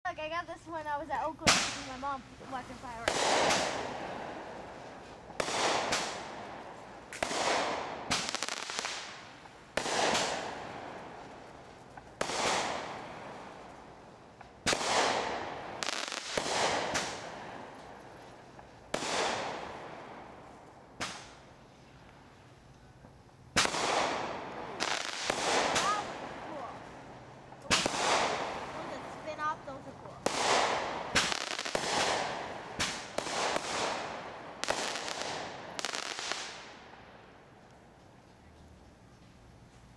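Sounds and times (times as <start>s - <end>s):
fireworks bangs with echo: 1.4s - 22.4s, 23.5s - 37.6s.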